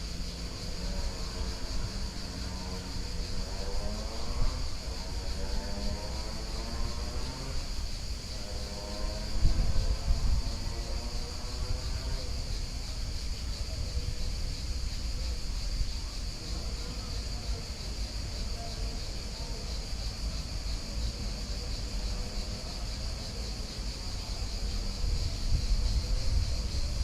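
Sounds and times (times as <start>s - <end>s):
insect chorus drone: 0.0s - 27.0s.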